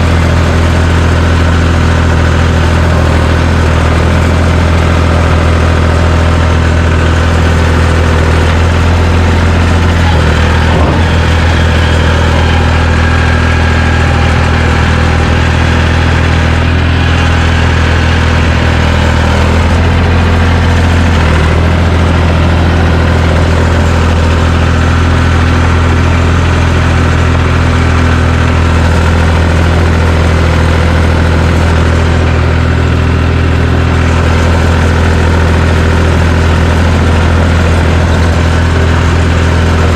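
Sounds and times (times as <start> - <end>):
dozer engine running: 0.0 - 39.9.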